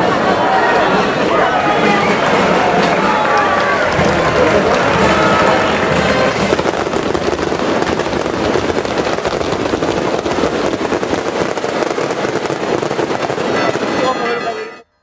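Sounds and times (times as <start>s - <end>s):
firecrackers crackling: 0.0s - 14.8s.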